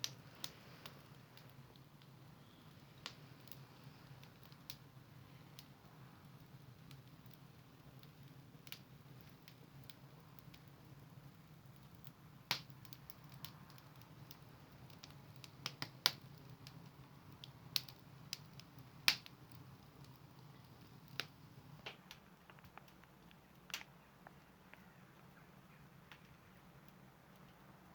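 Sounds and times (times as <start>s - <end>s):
sharp pops of fire: 0.0s - 10.8s, 11.6s - 24.9s
wood fire crackling: 0.0s - 27.9s.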